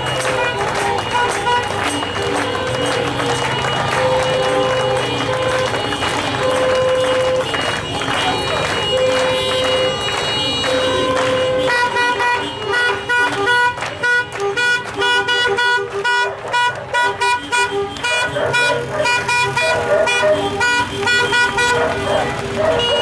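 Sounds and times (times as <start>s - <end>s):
car horns honking: 0.0s - 23.0s
crowd noise: 0.0s - 23.0s.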